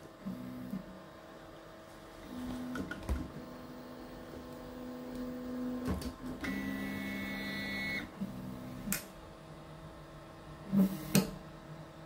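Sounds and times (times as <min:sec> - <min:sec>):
two-tone motor whine: 0:00.1 - 0:01.1, 0:02.2 - 0:12.0.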